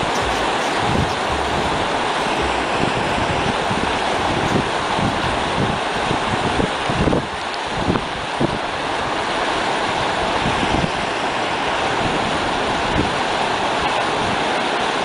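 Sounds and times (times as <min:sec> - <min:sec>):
stream babbling over stones: 0:00.0 - 0:15.0.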